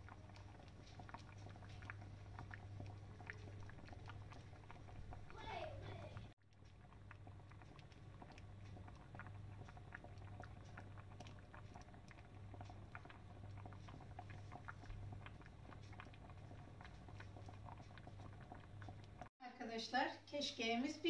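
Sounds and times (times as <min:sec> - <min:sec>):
low steady hum: 0:00.0 - 0:19.3
pot bubbling: 0:00.0 - 0:19.3.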